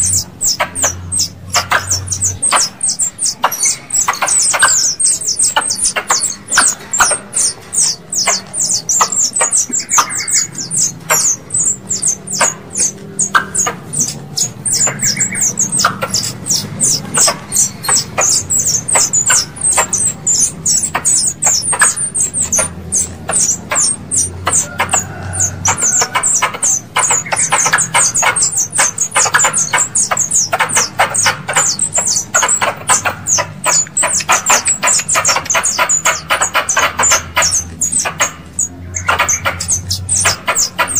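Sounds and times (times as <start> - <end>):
squirrel lure call chirps: 0.0 - 40.9.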